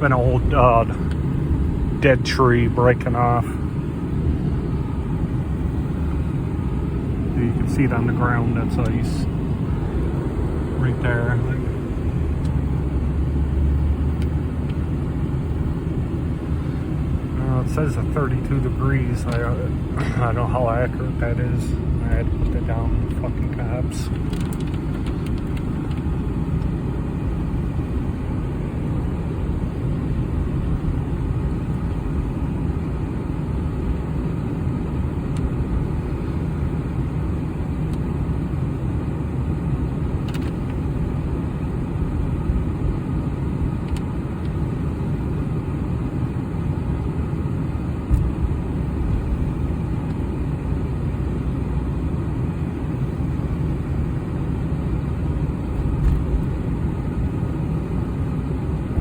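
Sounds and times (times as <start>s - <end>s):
road and engine noise in car: 0.0s - 59.0s.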